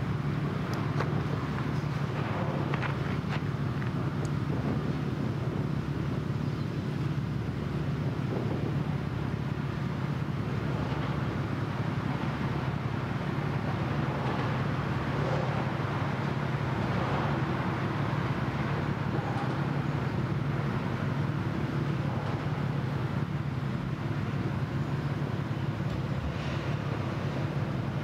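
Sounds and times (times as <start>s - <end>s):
low drone of ship engines: 0.0s - 28.0s
outdoor noise: 0.0s - 28.0s.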